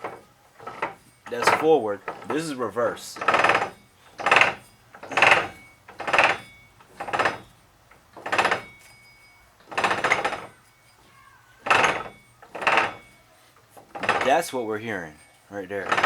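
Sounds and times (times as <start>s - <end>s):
metallic clatter of axle shaft: 0.0s - 16.0s.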